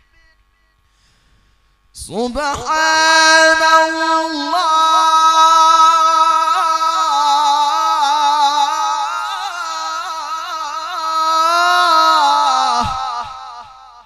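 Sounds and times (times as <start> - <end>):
man reciting melodically: 0.0 - 0.9, 1.9 - 14.0.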